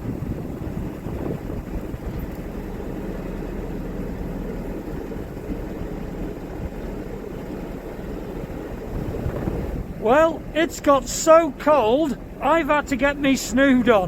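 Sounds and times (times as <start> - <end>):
boat engine running at low revs: 0.0 - 14.0.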